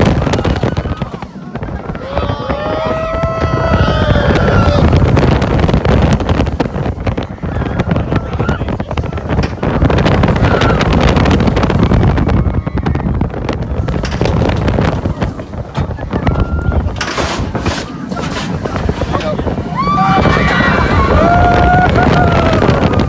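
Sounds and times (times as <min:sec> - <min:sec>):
roller coaster running on track: 0:00.0 - 0:23.0
wind buffeting microphone: 0:00.0 - 0:23.0.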